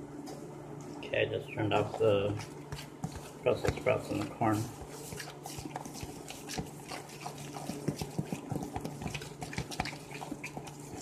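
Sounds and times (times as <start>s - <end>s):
utensil stirring wet dough: 1.5s - 11.0s.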